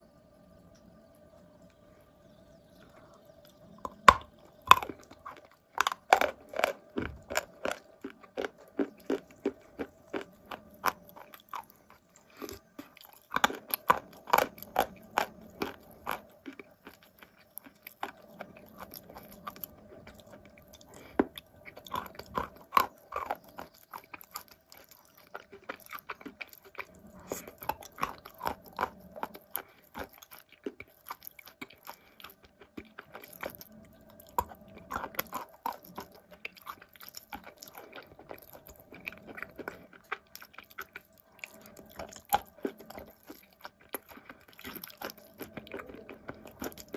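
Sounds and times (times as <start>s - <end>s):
crunching and chewing clay: 1.7s - 46.9s.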